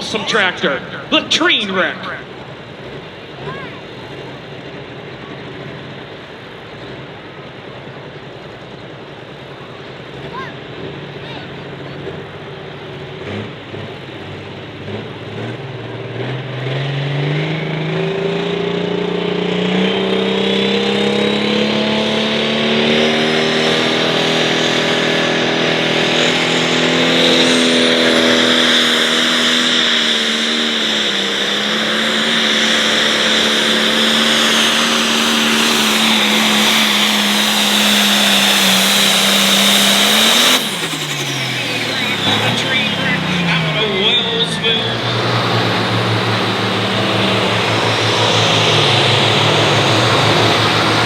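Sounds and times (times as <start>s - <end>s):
diesel engine under full load: 0.0s - 51.0s.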